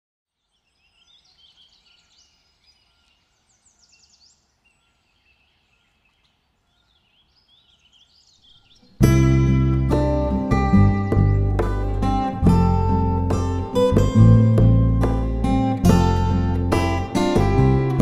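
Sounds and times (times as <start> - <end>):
small birds chirping: 0.3 - 18.0.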